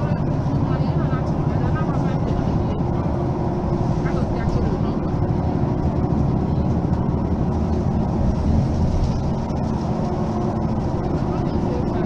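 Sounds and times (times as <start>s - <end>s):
city bus engine rumbling: 0.0s - 12.0s.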